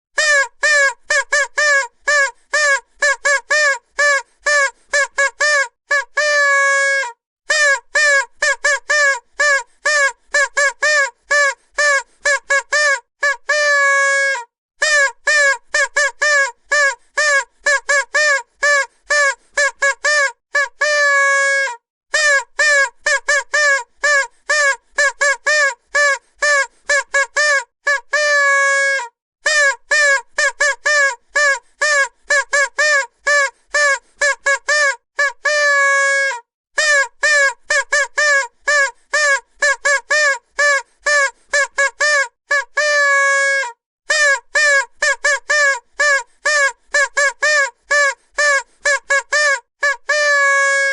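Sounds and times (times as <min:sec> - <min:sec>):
vuvuzela toots: 0:00.2 - 0:50.9.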